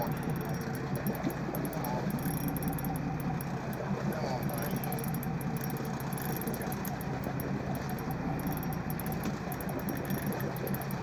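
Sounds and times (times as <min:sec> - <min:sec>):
faint high-pitched ticks: 0:00.0 - 0:03.8, 0:04.4 - 0:11.0
boat engine running: 0:00.0 - 0:11.0
water wash: 0:00.0 - 0:11.0.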